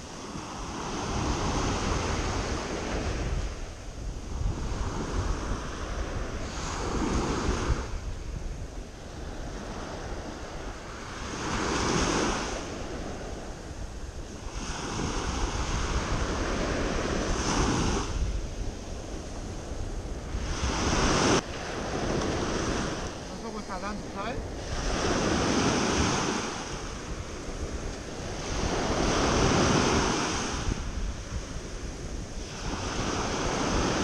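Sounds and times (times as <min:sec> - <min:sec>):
sea waves breaking on sand: 0:00.0 - 0:34.0
wind rumbling on microphone: 0:00.0 - 0:34.0.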